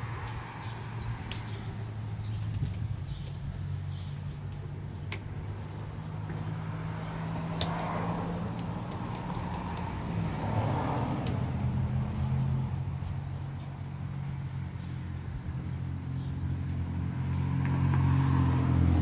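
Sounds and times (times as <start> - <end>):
cars passing: 0.0 - 19.0
low traffic hum: 0.0 - 19.0.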